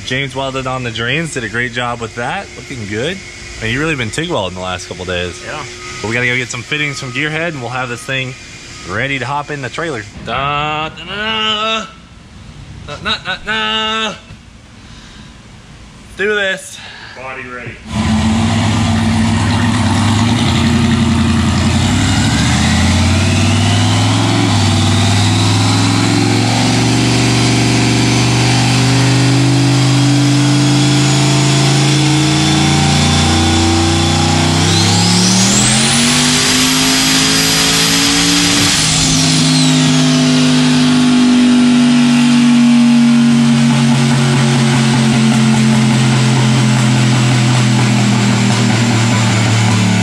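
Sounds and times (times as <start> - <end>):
car engine running: 0.0 - 13.2, 17.8 - 50.0
high turbo whine: 0.0 - 50.0.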